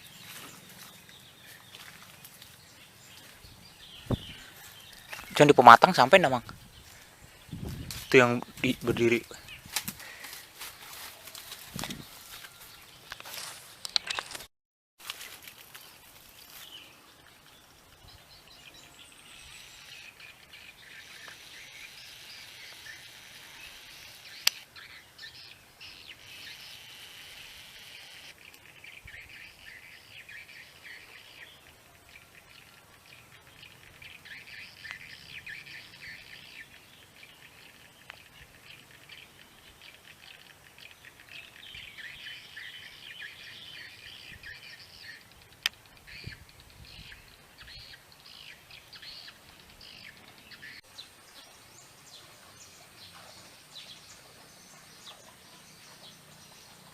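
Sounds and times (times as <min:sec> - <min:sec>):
small birds chirping: 0:00.0 - 0:14.4, 0:15.7 - 0:56.9.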